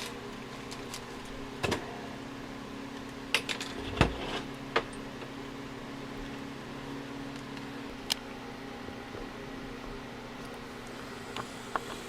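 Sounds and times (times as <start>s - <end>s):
plastic welder electrical hum: 0.0s - 12.0s.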